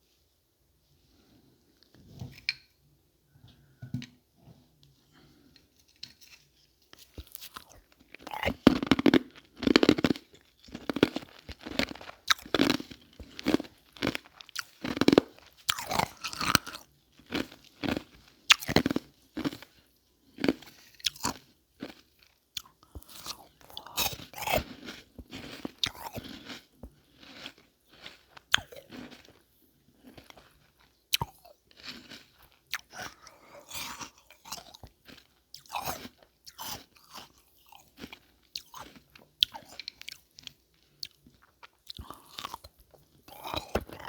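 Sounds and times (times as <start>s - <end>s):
ice being chewed: 5.2s - 44.0s.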